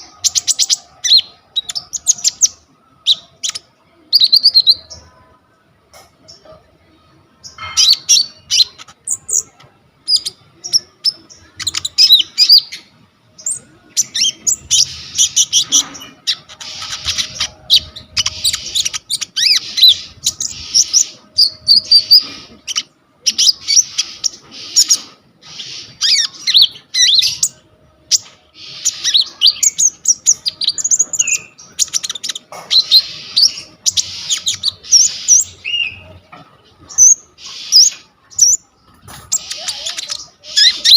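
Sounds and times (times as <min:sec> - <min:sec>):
songbird chattering song: 0:00.0 - 0:40.9.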